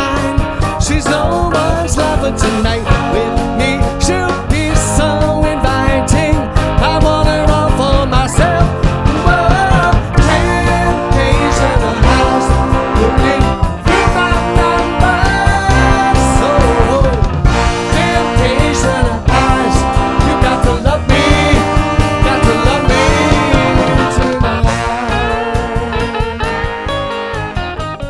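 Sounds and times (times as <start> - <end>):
instrumental rock music: 0.0 - 28.0.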